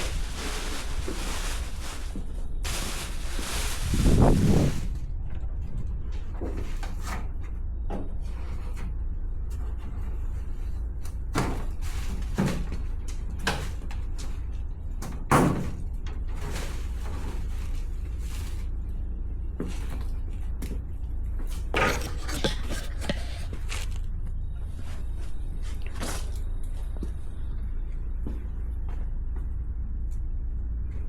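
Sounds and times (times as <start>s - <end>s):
low hum: 0.0s - 15.1s, 15.8s - 31.0s.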